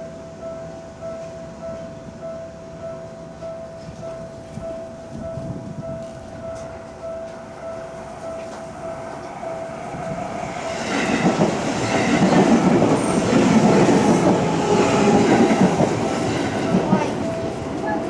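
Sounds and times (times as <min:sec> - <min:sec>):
train rumbling over crossing: 0:00.3 - 0:18.0.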